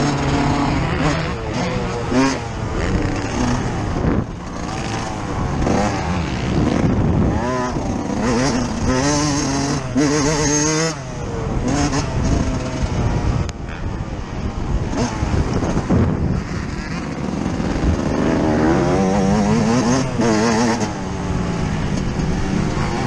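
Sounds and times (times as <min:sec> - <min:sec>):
two-stroke motocross engine revving: 0:00.0 - 0:13.2, 0:14.8 - 0:23.0.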